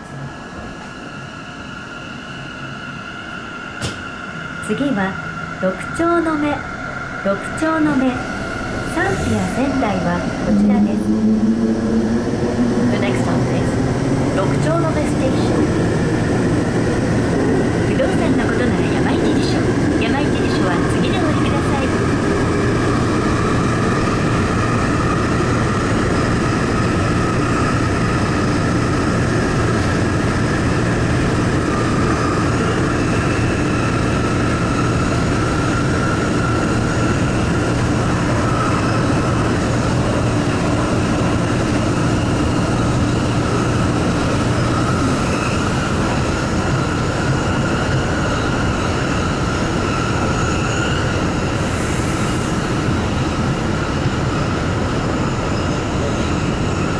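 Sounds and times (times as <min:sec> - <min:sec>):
subway train rumbling in tunnel: 0:00.0 - 0:56.9.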